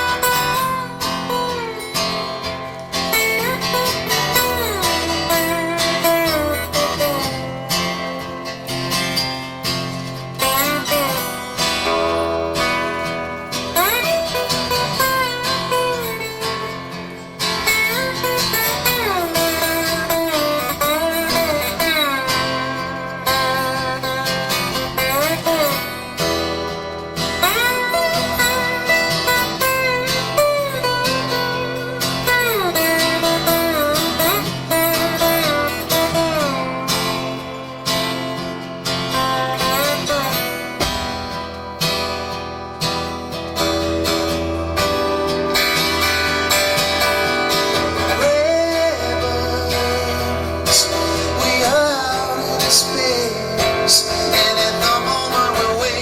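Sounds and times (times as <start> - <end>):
live band guitar music: 0.0 - 56.0.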